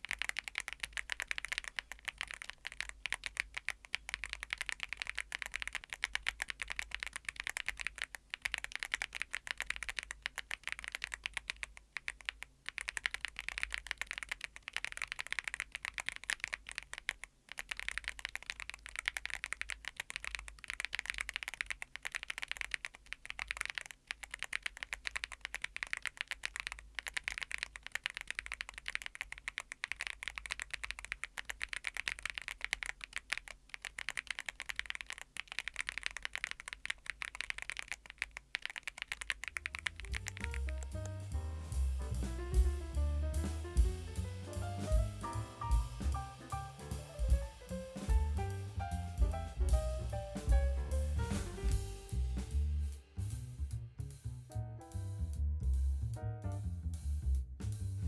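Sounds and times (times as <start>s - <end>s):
mechanical keyboard typing: 0.0s - 41.2s, 43.4s - 52.1s.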